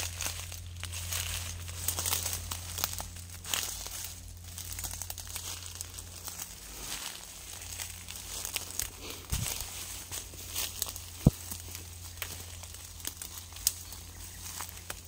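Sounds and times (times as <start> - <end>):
dry leaves crackling underfoot: 0.0 - 15.0
steady low hum: 0.0 - 15.0.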